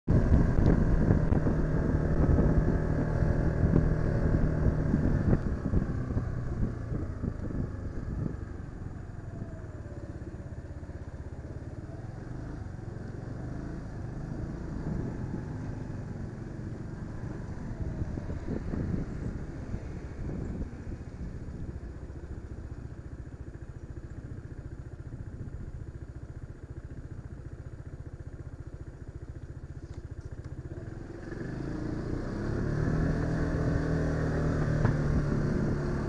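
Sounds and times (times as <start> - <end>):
motorcycle engine running: 0.0 - 36.0
road noise: 0.0 - 36.0.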